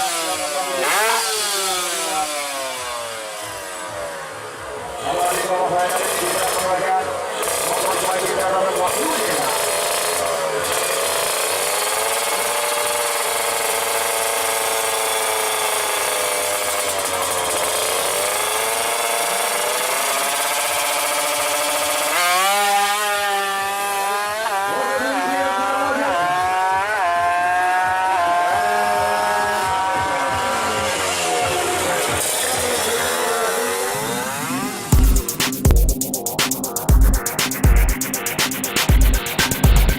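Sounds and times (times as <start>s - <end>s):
motorcycle engine revving: 0.0s - 39.9s
motorcycle shifting through gears: 0.0s - 39.9s.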